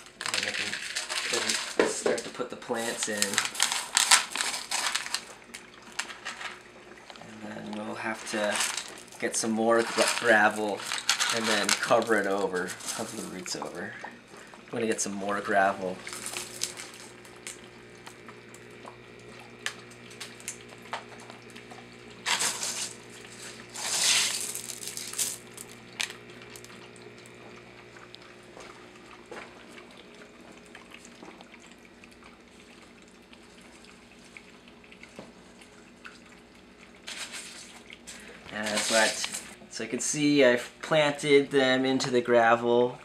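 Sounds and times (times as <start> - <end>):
air pump humming: 0.0 - 43.0
water bubbling and trickling: 3.4 - 38.6.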